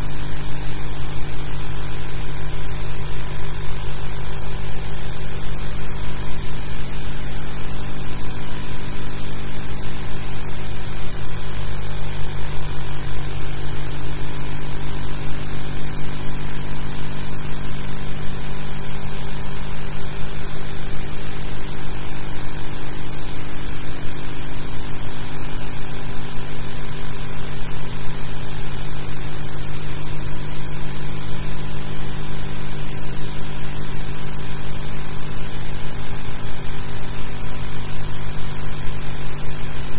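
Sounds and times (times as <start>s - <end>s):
film soundtrack hum and hiss: 0.0s - 39.9s.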